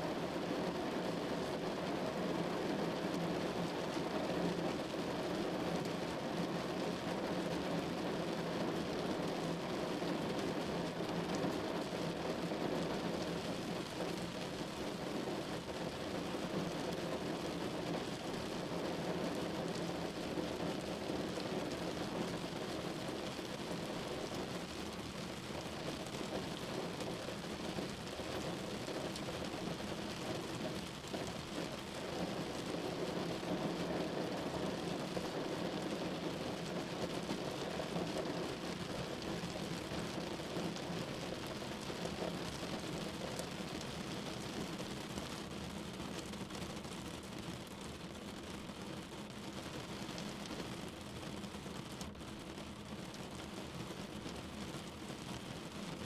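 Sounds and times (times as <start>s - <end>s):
rain pattering on a window: 0.0s - 56.0s.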